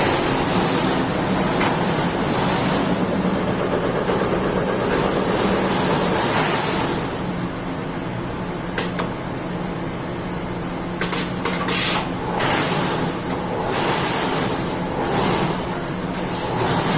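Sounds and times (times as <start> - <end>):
machinery hum: 0.0 - 16.9.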